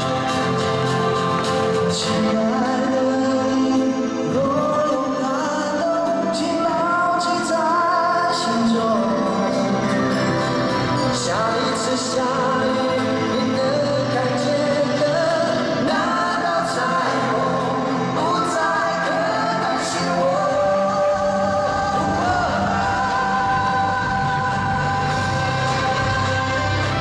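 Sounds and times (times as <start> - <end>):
pop-rock band playing: 0.0 - 27.0
man singing: 1.6 - 27.0.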